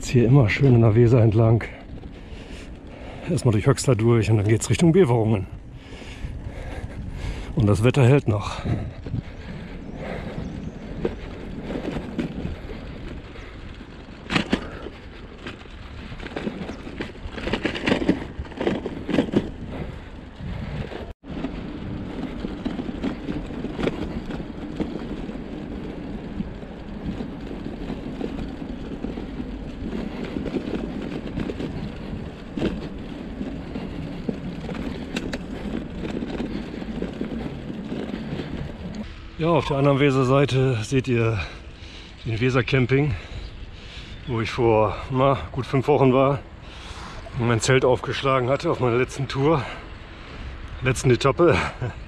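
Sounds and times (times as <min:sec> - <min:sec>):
bicycle tyres rolling on pavement: 0:00.0 - 0:52.0
bike rattling over bumps: 0:00.0 - 0:52.0.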